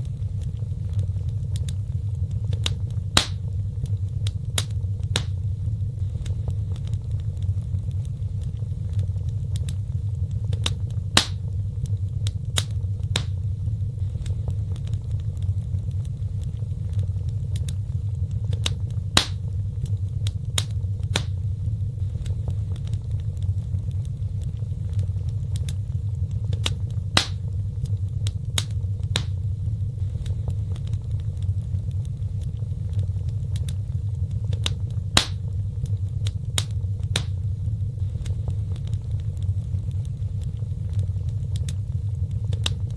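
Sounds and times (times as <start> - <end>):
fire crackling pops: 0.0 - 42.9
low fire rumble: 0.0 - 42.9.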